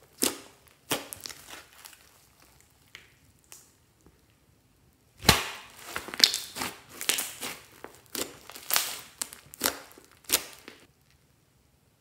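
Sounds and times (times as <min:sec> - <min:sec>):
slime crackling and popping: 0:00.0 - 0:04.4, 0:05.1 - 0:11.2.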